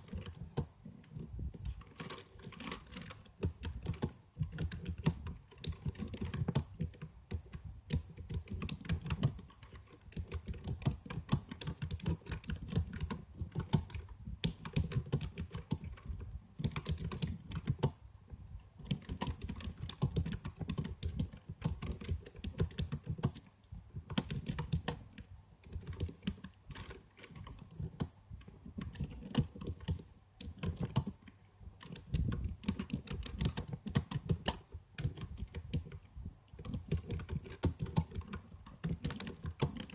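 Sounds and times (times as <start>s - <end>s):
keyboard typing clicks: 0.0s - 18.0s, 18.8s - 36.0s, 36.6s - 39.9s.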